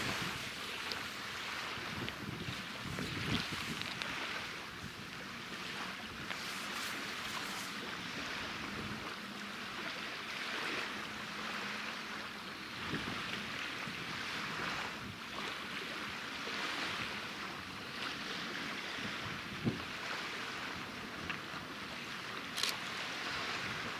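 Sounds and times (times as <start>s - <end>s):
wind and choppy sea: 0.0s - 23.9s.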